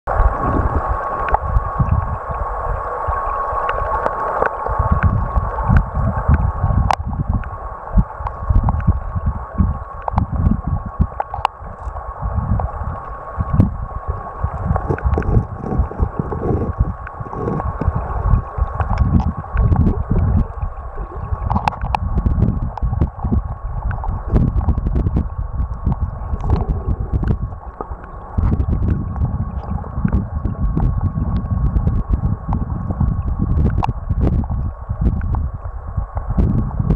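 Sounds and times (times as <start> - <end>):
underwater river rumble and gurgle: 0.1 - 36.9.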